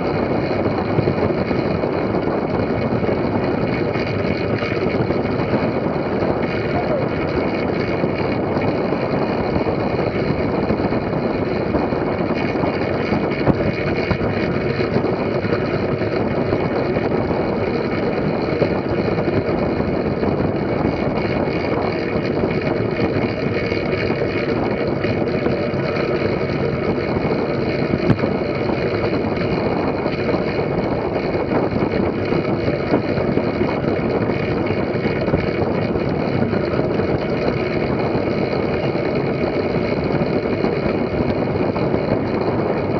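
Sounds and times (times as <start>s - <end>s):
bike tyres humming on track: 0.0s - 42.9s
wind on microphone: 0.0s - 42.9s.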